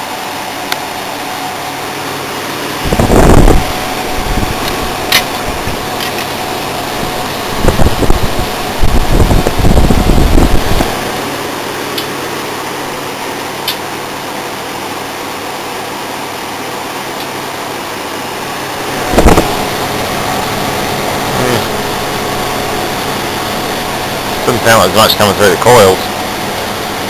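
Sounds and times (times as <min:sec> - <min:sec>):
air conditioner fan blowing: 0:00.0 - 0:27.0
low compressor hum: 0:00.0 - 0:27.0.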